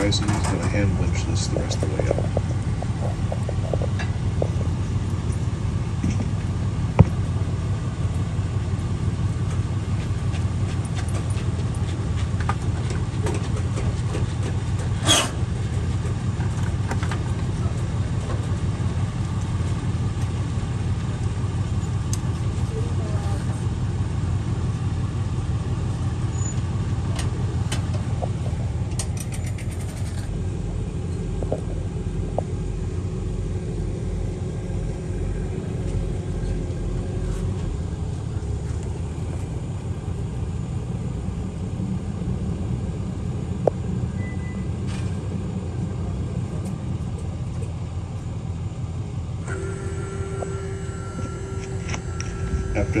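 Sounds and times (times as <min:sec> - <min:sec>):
outboard motors idling: 0:00.0 - 0:53.0
tow truck idling: 0:00.0 - 0:53.0.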